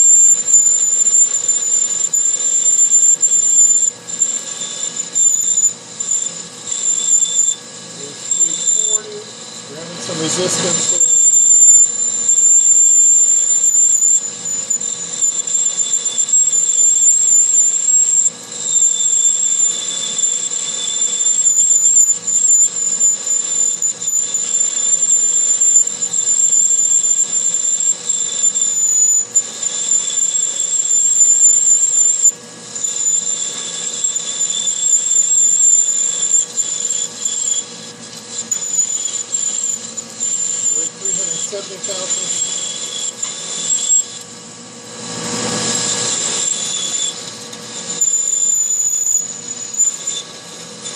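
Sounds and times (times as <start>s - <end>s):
drill squealing cutting steel: 0.0s - 50.9s.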